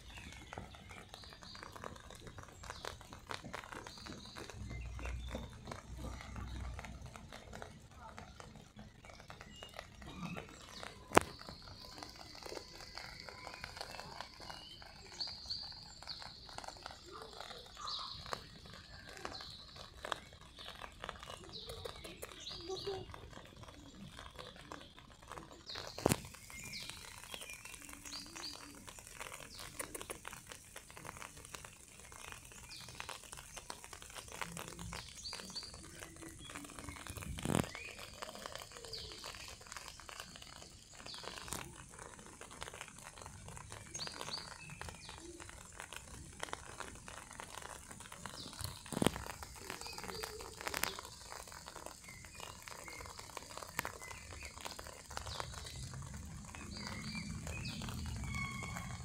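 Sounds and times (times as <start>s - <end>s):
small birds chirping: 0.0s - 59.0s
steady hiss: 9.7s - 59.0s.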